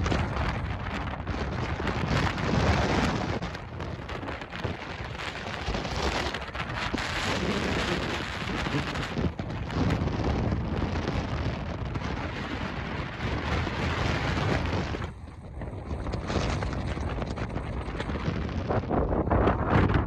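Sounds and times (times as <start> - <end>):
wind gusting across microphone: 0.0 - 20.0.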